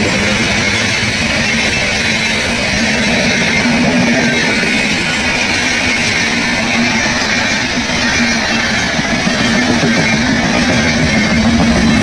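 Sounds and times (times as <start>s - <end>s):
train wheels rattling on rails: 0.0s - 12.0s.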